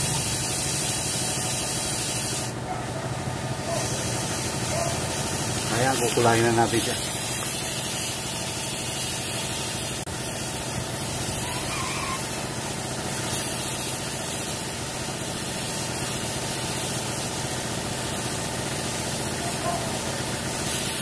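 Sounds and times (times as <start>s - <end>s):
spray gun hissing: 0.0s - 2.7s, 3.5s - 21.0s.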